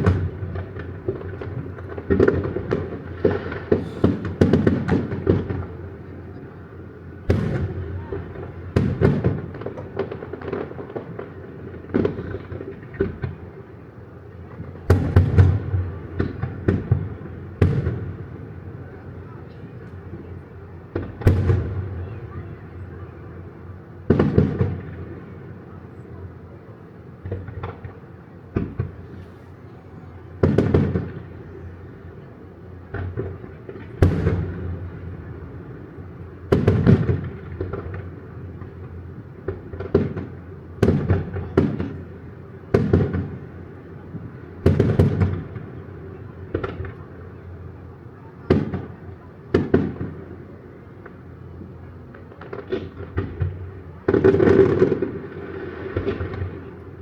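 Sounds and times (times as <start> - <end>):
fireworks booming with echo: 0.0 - 57.0.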